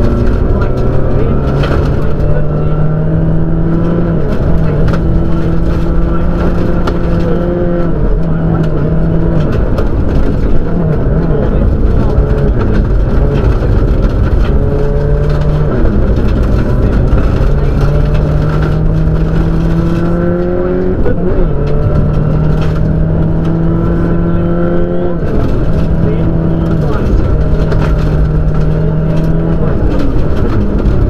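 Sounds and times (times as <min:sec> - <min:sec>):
rally car engine pulling hard: 0:00.0 - 0:31.0
tyres rumbling on gravel: 0:00.0 - 0:31.0.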